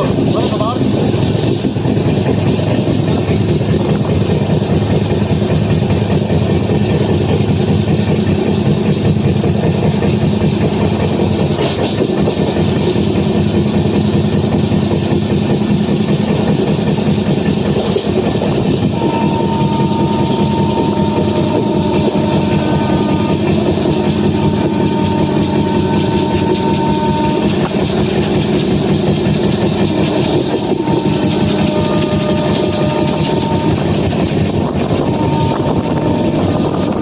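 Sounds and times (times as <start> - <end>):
train wheels clacking on rails: 0.0 - 37.0.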